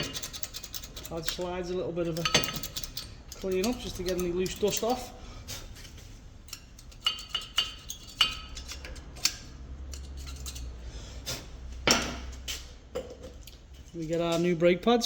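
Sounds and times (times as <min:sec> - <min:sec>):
metal tools scraping and clinking: 0:00.0 - 0:10.8, 0:11.8 - 0:14.7.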